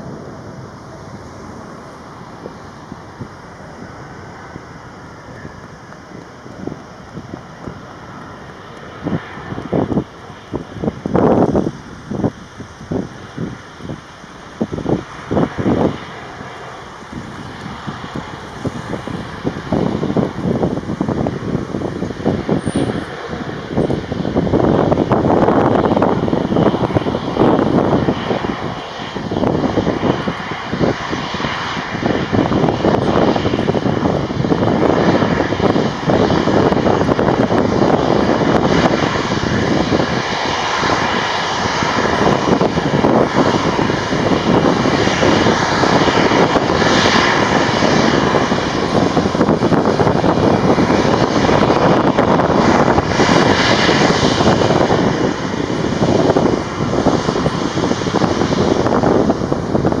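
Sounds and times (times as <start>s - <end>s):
jet engines running: 0.0s - 60.0s.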